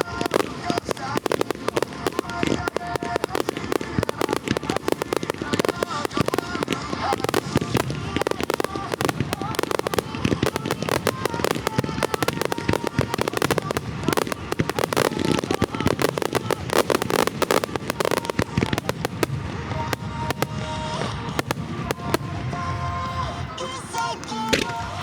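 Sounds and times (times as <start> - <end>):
firework bursts and crackles: 0.0 - 25.0
rock song over loudspeakers: 0.0 - 25.0.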